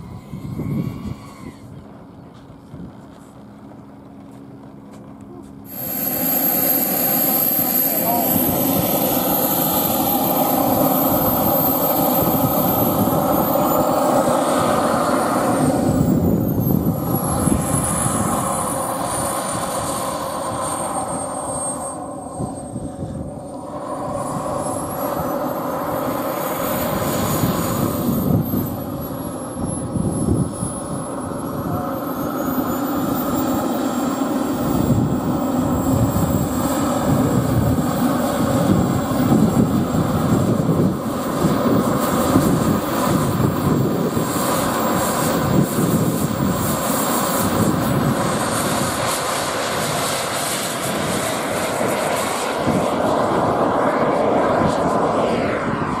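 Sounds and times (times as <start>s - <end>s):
model jet turbine whine: 0.0s - 56.0s.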